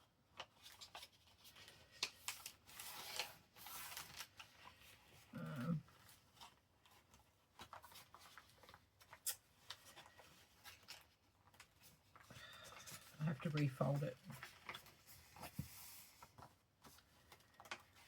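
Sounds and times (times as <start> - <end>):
paper rustling and crinkling: 0.0 - 18.0.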